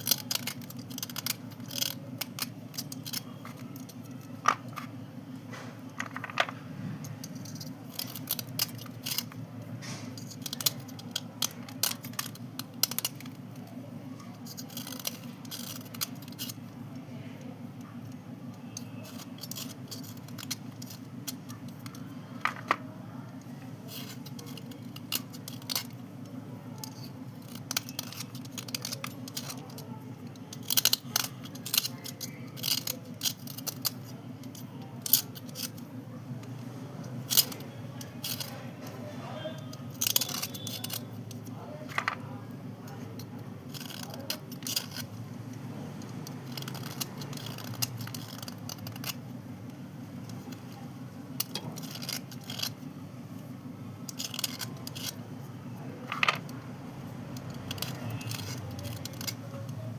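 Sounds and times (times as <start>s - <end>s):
slate pencils crunching and scraping: 0.0s - 59.9s.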